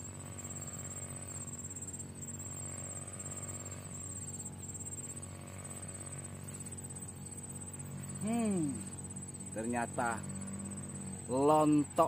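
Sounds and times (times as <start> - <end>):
insects chirring: 0.0 - 12.0
low steady hum: 0.0 - 12.0.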